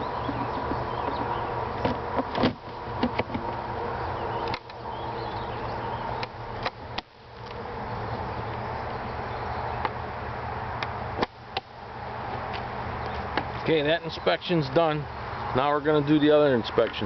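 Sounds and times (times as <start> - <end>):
honeybees buzzing: 0.0 - 16.9.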